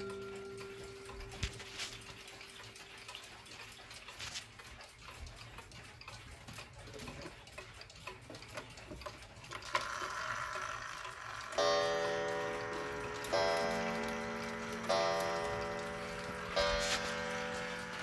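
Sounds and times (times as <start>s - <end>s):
pendulum clocks ticking: 0.0s - 18.0s.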